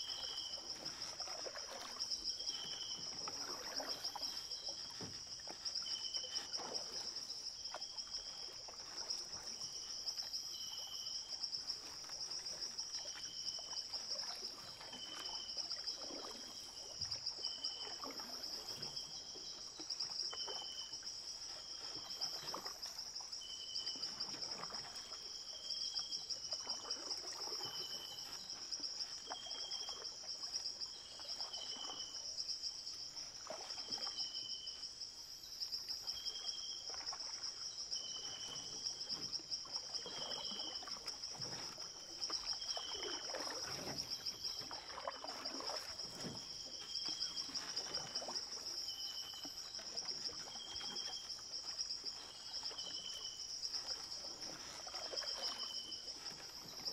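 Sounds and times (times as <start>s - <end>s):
trickling water: 0.0s - 56.9s.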